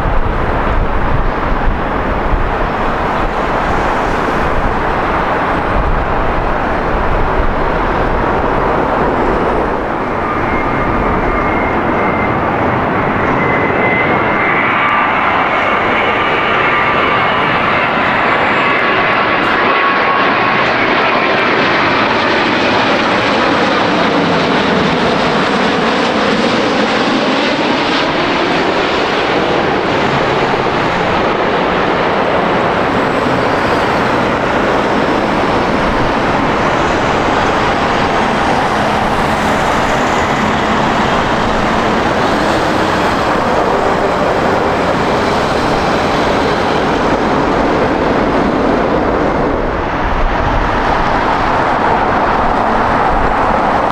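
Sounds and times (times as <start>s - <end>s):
jet engines passing: 0.0s - 53.9s.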